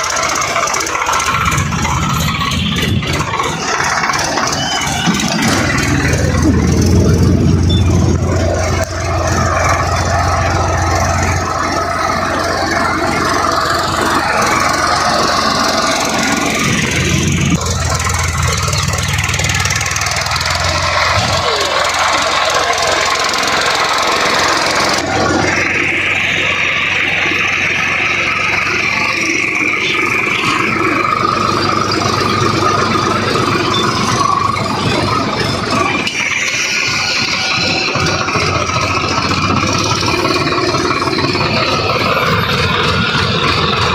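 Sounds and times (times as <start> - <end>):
high squealing grinding: 0.0 - 43.9
tractor diesel engine under load: 0.0 - 43.9.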